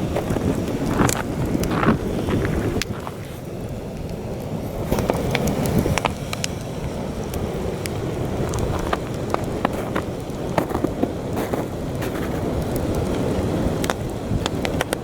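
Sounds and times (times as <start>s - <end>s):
campfire crackling and popping: 0.0s - 15.0s
wind blowing across microphone: 0.0s - 15.0s.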